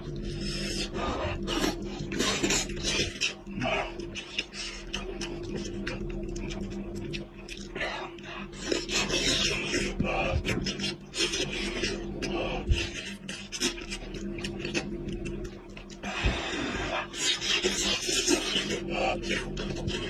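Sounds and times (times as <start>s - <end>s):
chewing and gnawing meat: 0.1s - 20.0s.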